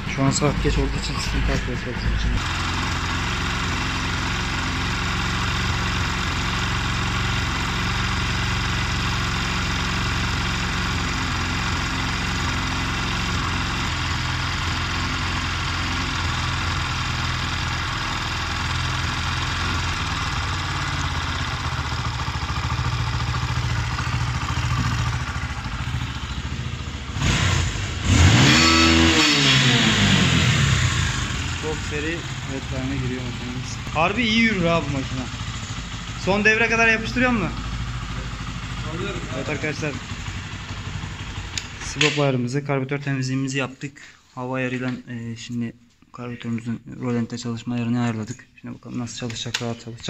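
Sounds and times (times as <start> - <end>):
motorcycle engine idling and revving: 0.0 - 42.2.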